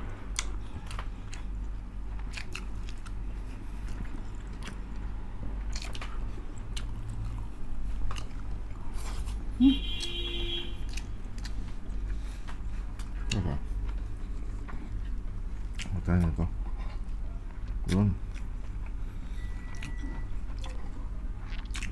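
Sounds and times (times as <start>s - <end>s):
chewing with wet smacking: 0.3s - 10.1s, 10.8s - 21.9s.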